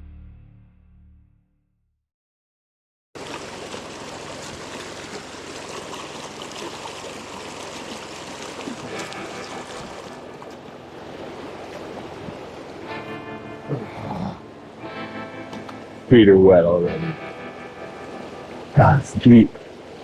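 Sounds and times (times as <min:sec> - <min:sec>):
creek water running: 0:03.2 - 0:20.0.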